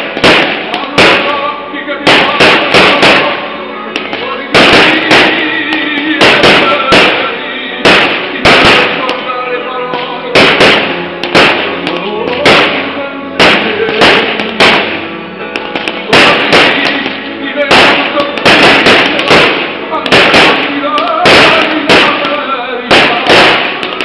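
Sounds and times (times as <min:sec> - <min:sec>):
firework bangs: 0:00.0 - 0:24.0
music with held notes: 0:00.0 - 0:24.0.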